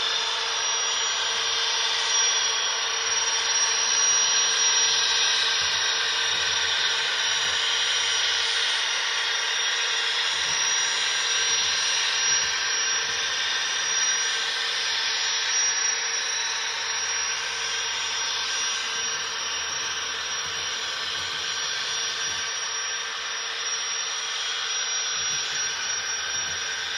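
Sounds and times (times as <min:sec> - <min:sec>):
model turbine hissing rush: 0:00.0 - 0:26.9.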